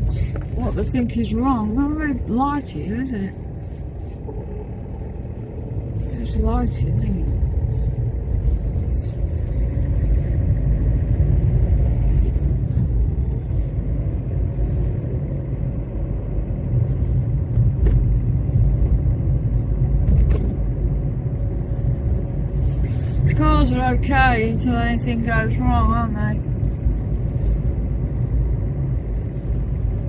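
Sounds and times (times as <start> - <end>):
car engine rumble inside cabin: 0.0 - 30.0.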